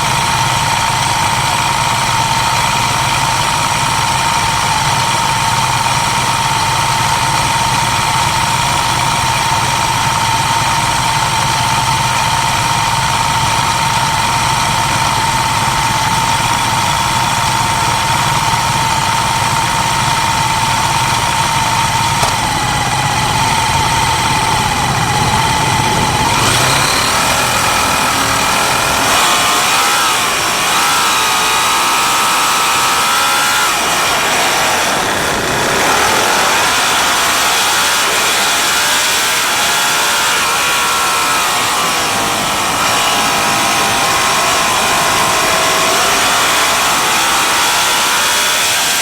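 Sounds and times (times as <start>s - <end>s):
motorcycle engines revving: 0.0s - 49.0s
motorcycle engines running: 0.0s - 49.0s.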